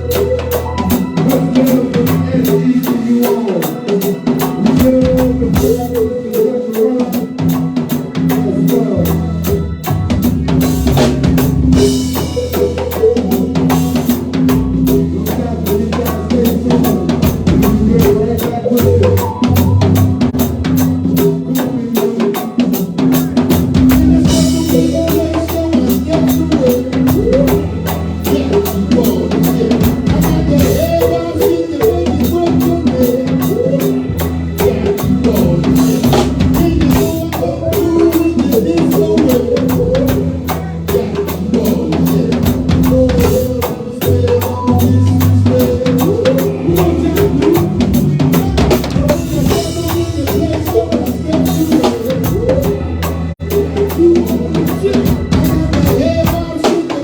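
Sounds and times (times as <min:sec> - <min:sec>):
drum kit beat: 0:00.0 - 0:57.0
live band playing: 0:00.0 - 0:57.0.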